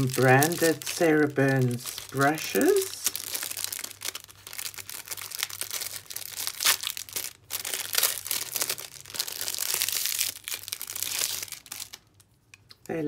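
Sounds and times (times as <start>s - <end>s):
plastic sleeve crinkling: 0.0s - 12.9s.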